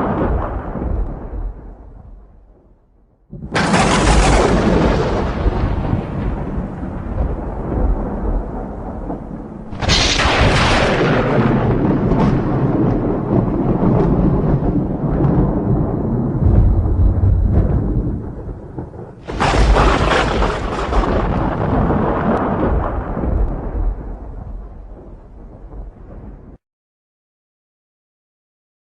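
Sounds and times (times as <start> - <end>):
thunder cracking and rumbling: 0.0 - 26.6.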